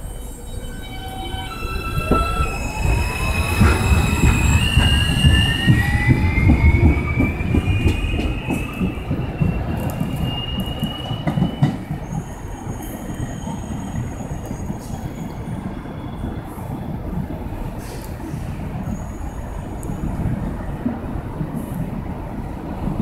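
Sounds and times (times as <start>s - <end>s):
subway train motors howling: 0.0s - 23.0s
wheels rumbling on rails: 0.0s - 23.0s.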